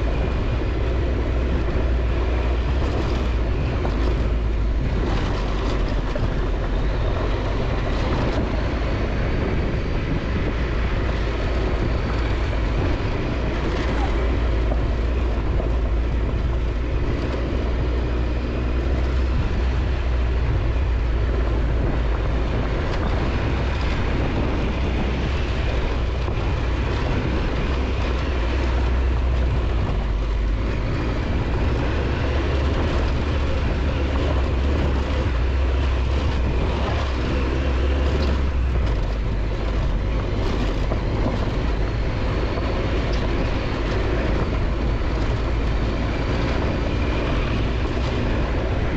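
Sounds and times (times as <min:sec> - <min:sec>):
deep road and wind rumble: 0:00.0 - 0:48.9
motorcycle engine running: 0:00.0 - 0:48.9.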